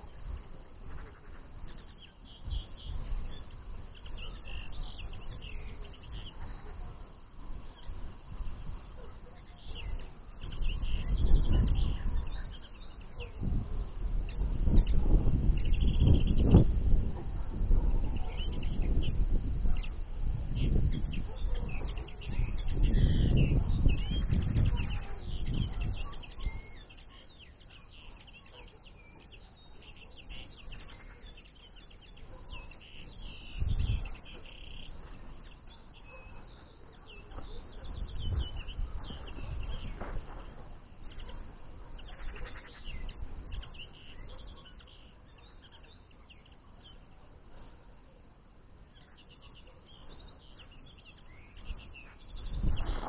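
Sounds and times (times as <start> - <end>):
low rumbles on the microphone: 0.0 - 27.0, 32.1 - 44.8, 49.9 - 53.0
small songbirds twittering: 0.0 - 53.0.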